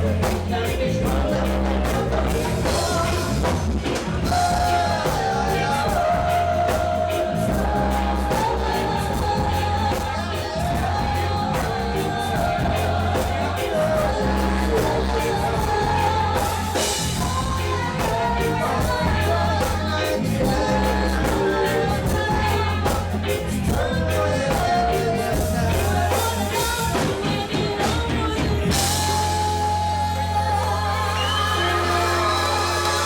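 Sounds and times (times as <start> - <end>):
bass guitar: 0.0 - 33.0
drums: 0.0 - 33.0
live reggae band playing: 0.0 - 33.0
person singing: 0.0 - 33.0.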